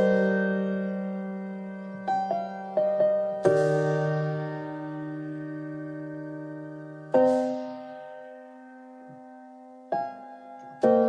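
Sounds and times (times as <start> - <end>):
held piano chord: 0.0 - 11.0.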